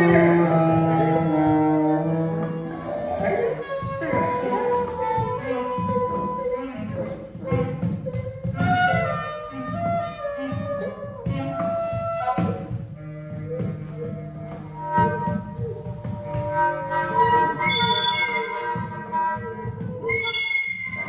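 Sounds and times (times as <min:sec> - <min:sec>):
bata drums: 0:00.0 - 0:21.0.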